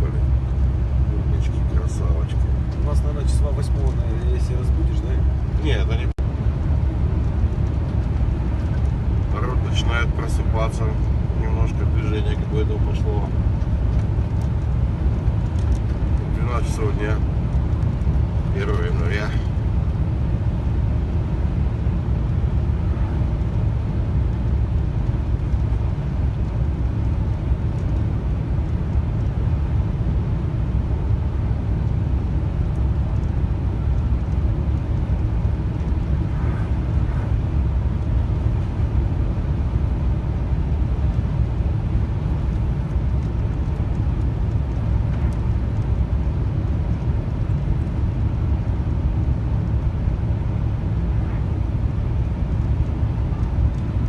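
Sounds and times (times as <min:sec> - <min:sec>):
truck driving drone: 0:00.0 - 0:54.0.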